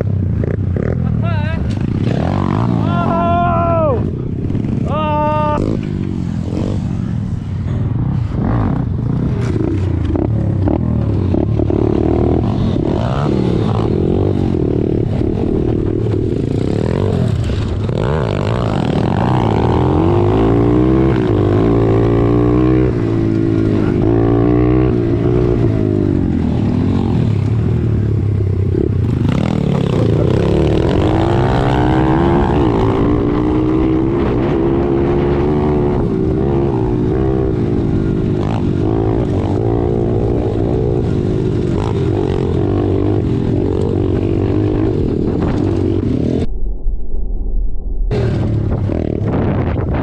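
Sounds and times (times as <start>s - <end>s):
pit bike engines revving: 0.0s - 46.5s.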